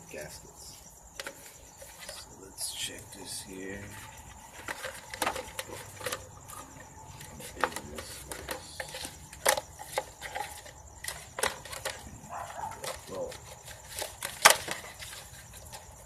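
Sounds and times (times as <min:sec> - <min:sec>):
car parts clicking and knocking: 0:01.0 - 0:02.2, 0:03.8 - 0:16.0.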